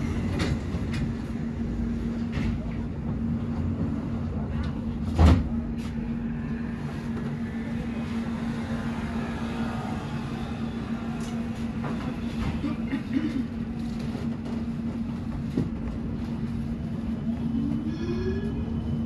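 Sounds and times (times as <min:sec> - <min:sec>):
bus cabin hum: 0:00.0 - 0:19.0.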